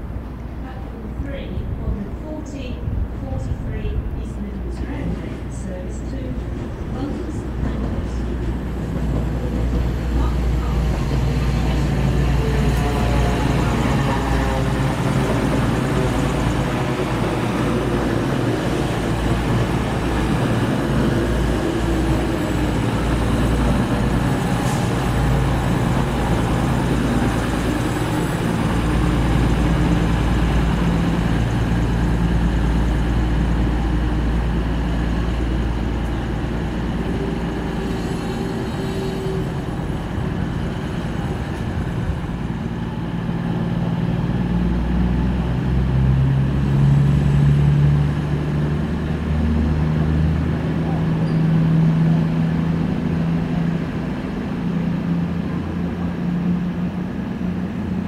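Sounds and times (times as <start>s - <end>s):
diesel train engines rumbling: 0.0s - 58.0s.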